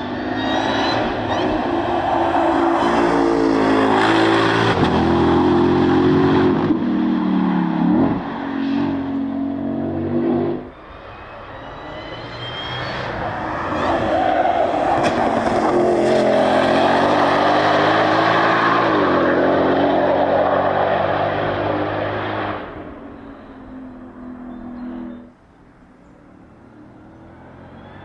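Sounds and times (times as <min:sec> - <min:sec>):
car engine passing at speed: 0:00.0 - 0:28.0.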